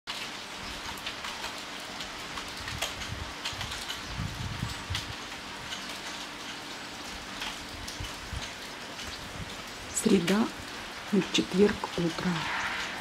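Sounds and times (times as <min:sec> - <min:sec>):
raindrops ticking on surfaces: 0:00.1 - 0:13.0
steady rain: 0:00.1 - 0:13.0.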